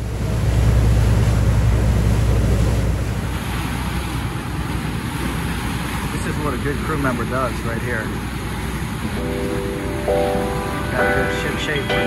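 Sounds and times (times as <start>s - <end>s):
boat engine rumble: 0.0s - 12.0s
water rushing past boat: 0.0s - 12.0s.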